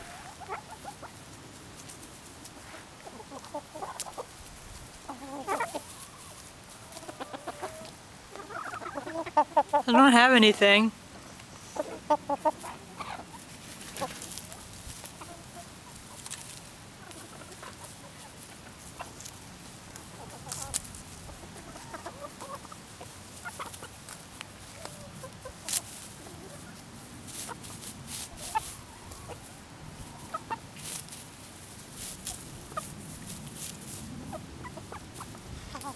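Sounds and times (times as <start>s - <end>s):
hens clucking softly: 0.0s - 10.0s, 11.3s - 35.9s.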